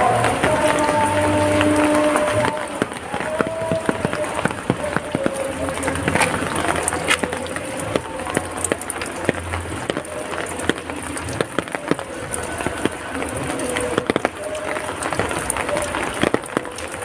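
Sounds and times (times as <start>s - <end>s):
rain drops tapping hard surfaces: 0.0s - 17.0s.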